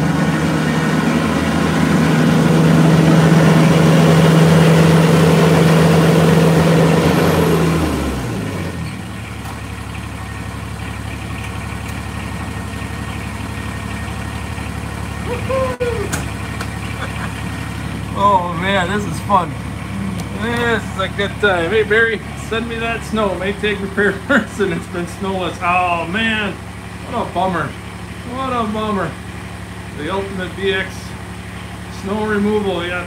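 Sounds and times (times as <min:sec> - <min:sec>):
tractor diesel engine revving then idling: 0:00.0 - 0:33.0.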